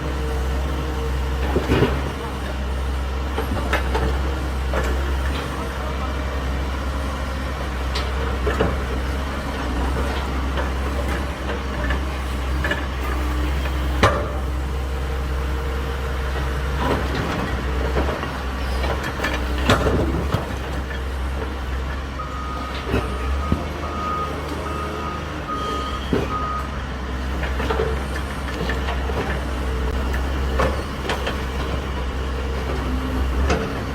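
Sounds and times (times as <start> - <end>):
excavator running: 0.0 - 33.9.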